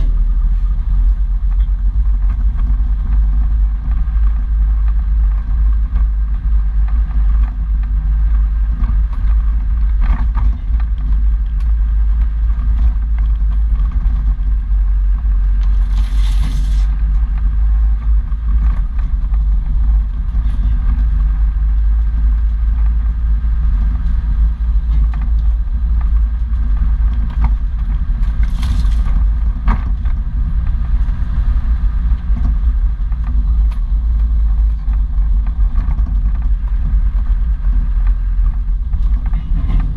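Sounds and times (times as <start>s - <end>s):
off-road vehicle engine rumble: 0.0s - 39.9s.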